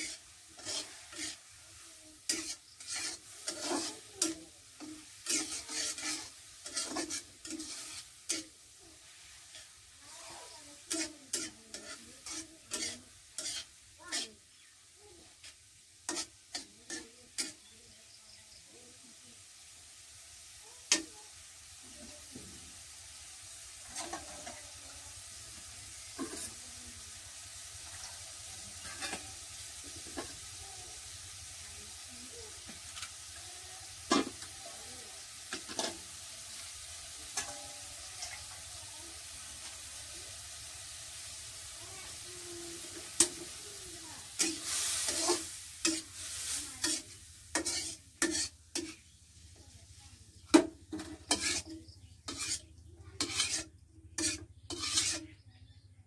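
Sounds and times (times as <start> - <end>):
metal spatula scraping a pan: 0.0 - 17.7, 19.7 - 55.4
food sizzling in a wok: 0.0 - 56.0.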